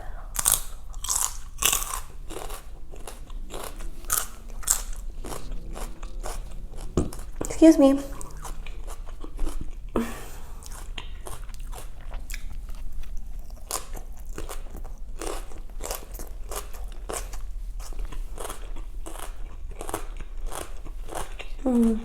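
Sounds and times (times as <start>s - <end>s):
chewing crunchy food: 0.2s - 22.0s.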